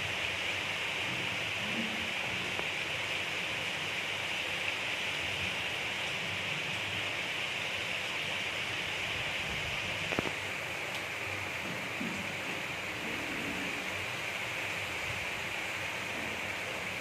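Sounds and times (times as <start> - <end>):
gentle rain: 0.0 - 17.0.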